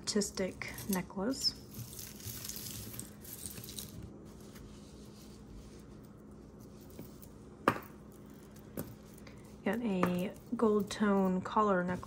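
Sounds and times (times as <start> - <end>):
faint steady hum: 0.0 - 12.0
jewelry chains rustling and clinking: 0.3 - 11.7.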